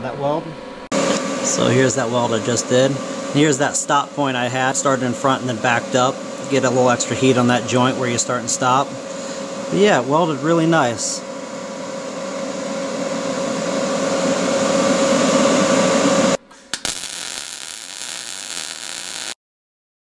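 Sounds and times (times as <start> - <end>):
mechanical hum: 0.0 - 19.4.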